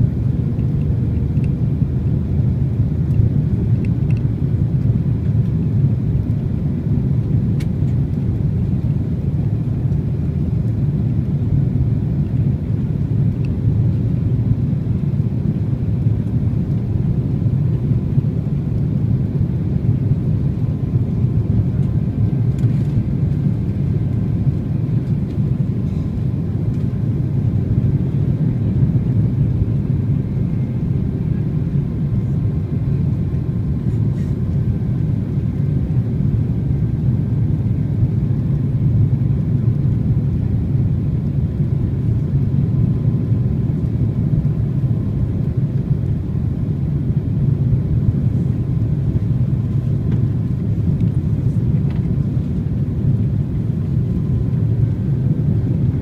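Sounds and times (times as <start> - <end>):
aircraft cabin rumble: 0.0 - 56.0.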